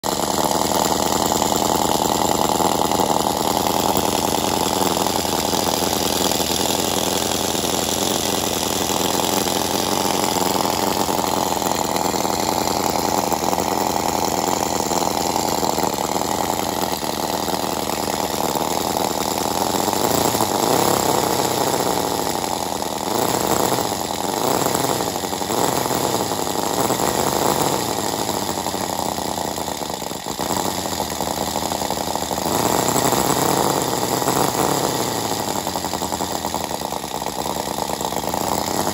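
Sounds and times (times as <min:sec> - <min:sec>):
model engine high buzz: 0:00.0 - 0:38.9.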